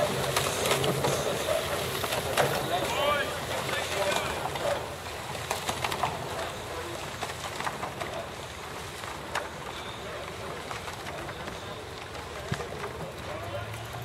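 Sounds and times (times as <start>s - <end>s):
steady outdoor noise: 0.0s - 14.0s.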